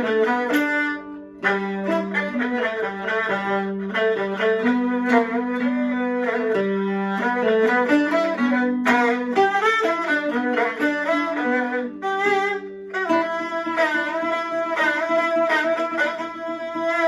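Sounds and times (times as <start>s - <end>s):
opera music with bowed fiddles: 0.0s - 17.0s.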